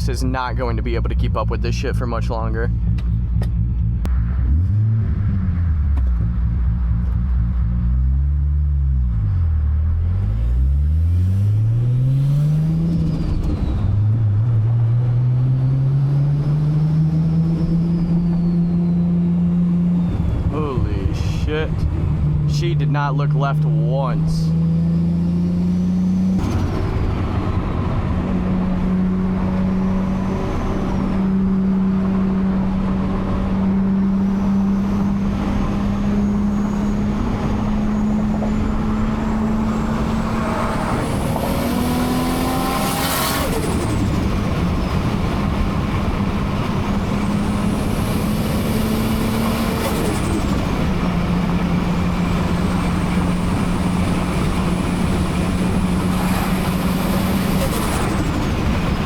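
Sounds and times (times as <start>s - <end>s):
car engine cruising: 0.0s - 59.0s
road noise: 0.0s - 59.0s.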